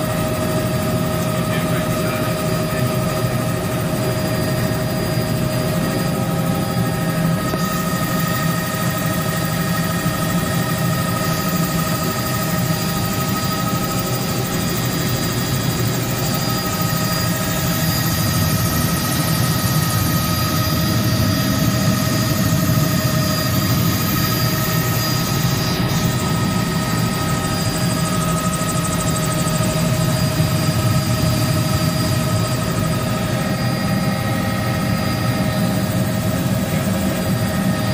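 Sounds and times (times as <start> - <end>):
helicopter rotor and engine rumble: 0.0 - 37.9
high whining tones: 3.2 - 37.9.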